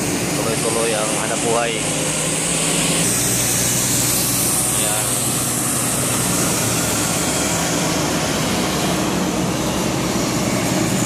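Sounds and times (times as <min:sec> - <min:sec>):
diesel truck engine passing: 0:00.0 - 0:11.0
traffic hiss: 0:00.0 - 0:11.0.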